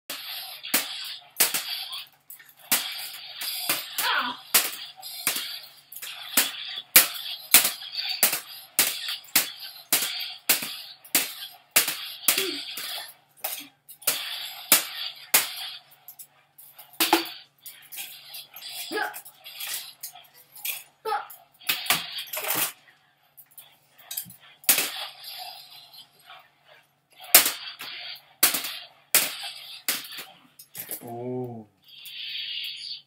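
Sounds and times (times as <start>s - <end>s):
plastic toy lightsabers clashing: 0.1s - 26.4s, 27.1s - 33.0s.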